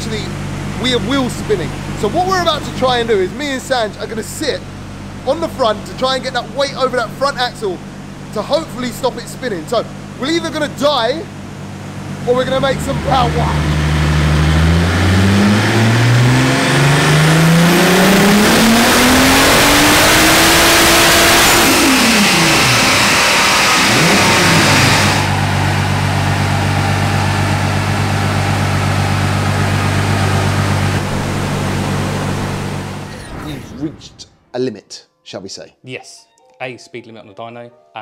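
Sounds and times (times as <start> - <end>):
turbocharged engine revving: 0.0 - 33.3.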